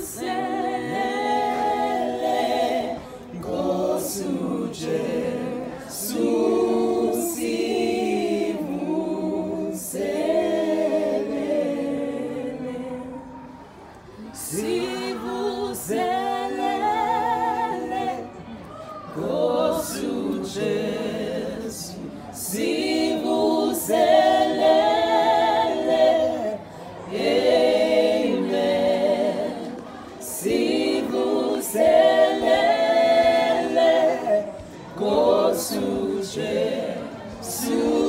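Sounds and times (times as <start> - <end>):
group singing in harmony: 0.0 - 38.0.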